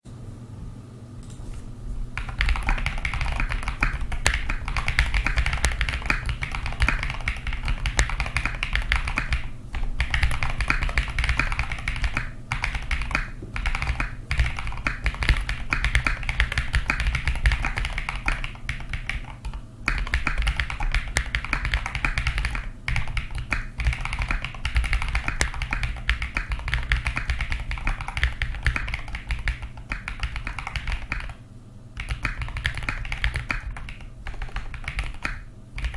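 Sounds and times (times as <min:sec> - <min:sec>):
mechanical keyboard typing: 0:02.2 - 0:31.4, 0:32.0 - 0:35.9.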